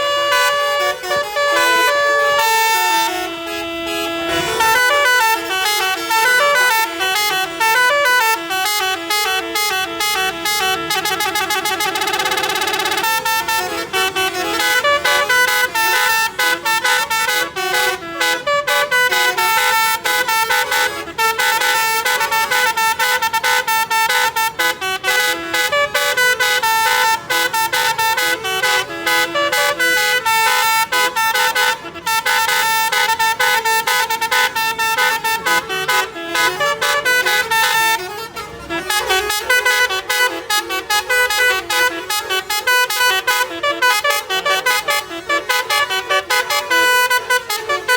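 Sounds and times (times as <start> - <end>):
musical bus horn playing a tune: 0.0 - 47.9.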